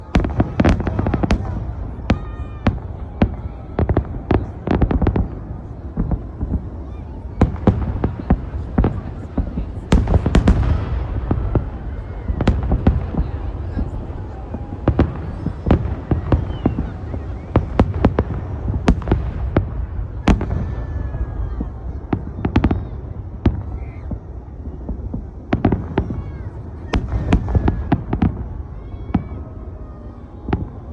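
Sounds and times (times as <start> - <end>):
continuous low rumble: 0.0 - 30.9
fireworks bangs: 0.0 - 30.9.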